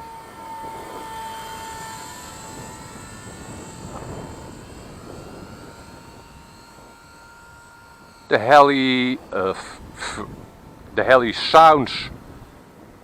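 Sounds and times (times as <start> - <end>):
rc helicopter rotor whine: 0.0 - 13.0.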